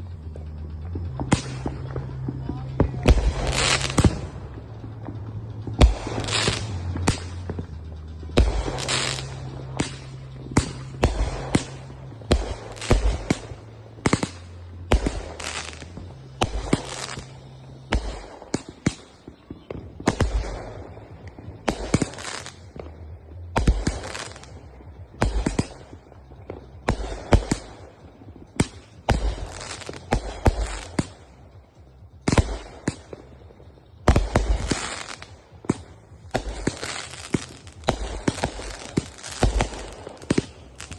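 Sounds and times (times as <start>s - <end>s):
fireworks bangs: 0.0s - 40.9s
fireworks crackle: 0.0s - 40.9s.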